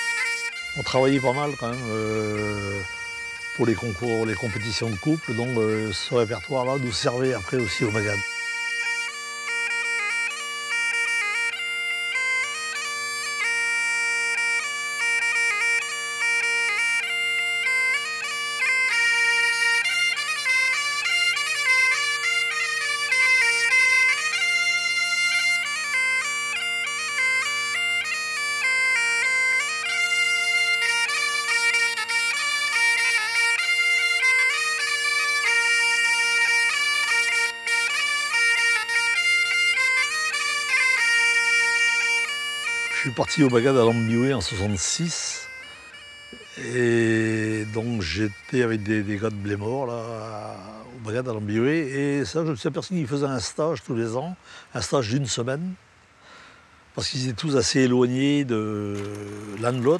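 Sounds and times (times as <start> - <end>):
bagpipe tune with drones: 0.0 - 59.9.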